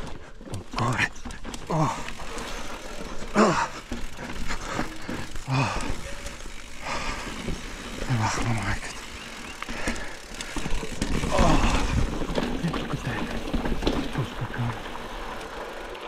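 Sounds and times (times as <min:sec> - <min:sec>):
rider grunting: 0:00.0 - 0:15.8
bike rumbling on rocky trail: 0:00.0 - 0:16.0.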